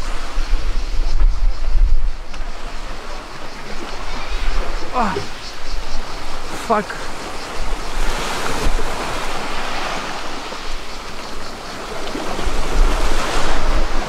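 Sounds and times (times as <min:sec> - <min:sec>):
wind rumble on microphone: 0:00.0 - 0:14.0
waves on pebble shore: 0:02.4 - 0:14.0.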